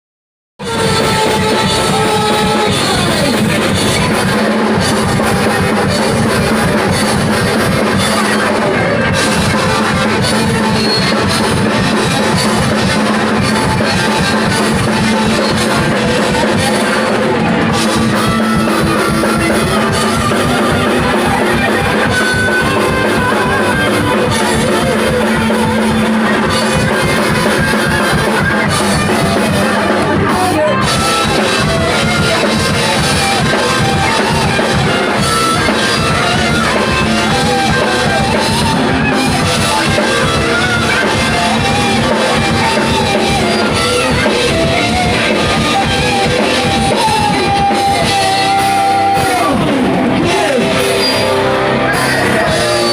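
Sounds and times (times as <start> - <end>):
bass guitar: 0.6 - 52.9
drum kit: 0.6 - 52.9
electric guitars: 0.6 - 52.9.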